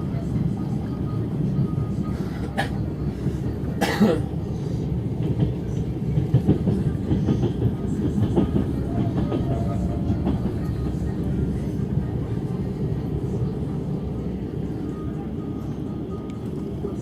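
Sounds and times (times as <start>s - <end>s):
train wheels rumbling: 2.5s - 17.0s.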